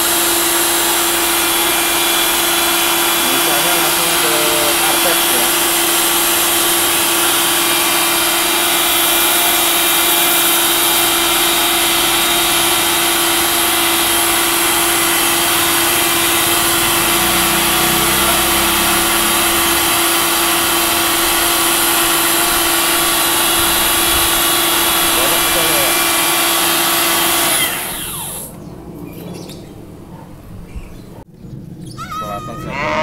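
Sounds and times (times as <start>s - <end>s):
pressure washer humming: 0.0s - 28.6s.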